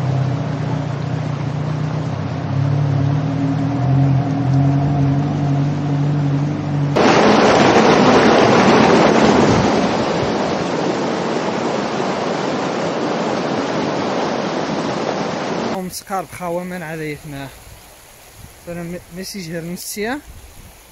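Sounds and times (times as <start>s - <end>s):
floodwater rushing through culverts: 0.0s - 20.9s.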